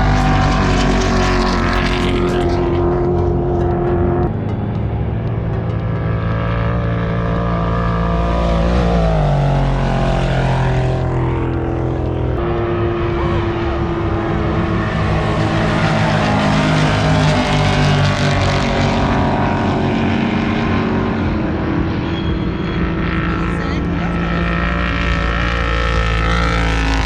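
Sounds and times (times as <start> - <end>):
race vehicle engine running: 0.0 - 27.0.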